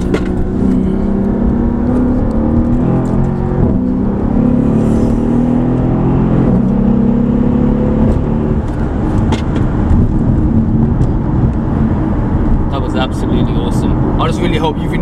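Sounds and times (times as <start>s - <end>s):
car engine accelerating hard: 0.0s - 15.0s
road noise: 0.0s - 15.0s.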